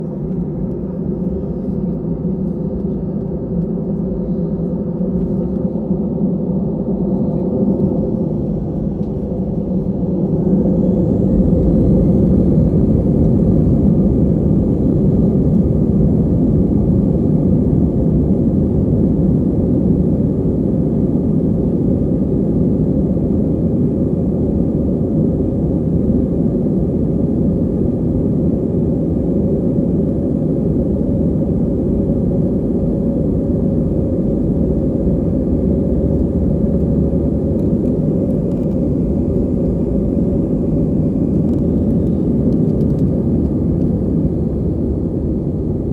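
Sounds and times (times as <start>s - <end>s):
jet engine cabin rumble: 0.0s - 45.9s.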